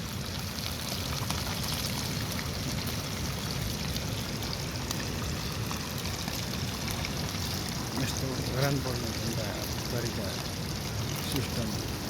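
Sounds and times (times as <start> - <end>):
fish frying in sizzling oil: 0.0 - 12.0.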